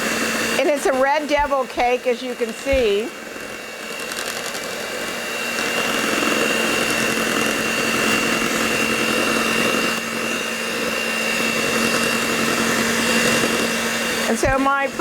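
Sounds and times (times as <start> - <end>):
electric mixer beating batter: 0.0 - 15.0.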